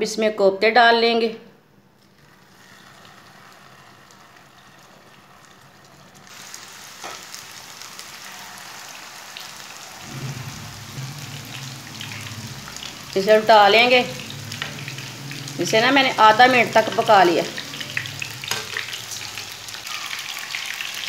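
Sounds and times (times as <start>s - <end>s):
meatballs sizzling in hot oil: 2.1s - 21.0s.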